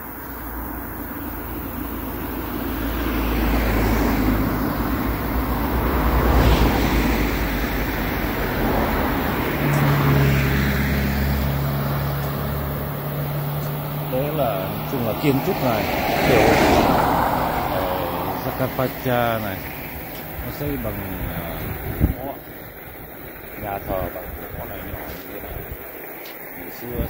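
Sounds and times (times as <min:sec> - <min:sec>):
car tyre noise passing: 0:00.0 - 0:27.0
vehicle engine hum: 0:00.0 - 0:27.0.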